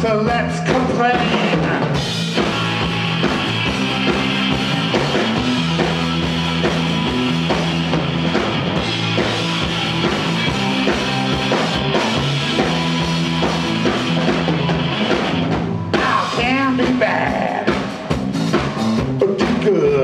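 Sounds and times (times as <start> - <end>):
bass guitar: 0.0 - 20.0
drum kit beat: 0.0 - 20.0
electric guitar: 0.7 - 19.5.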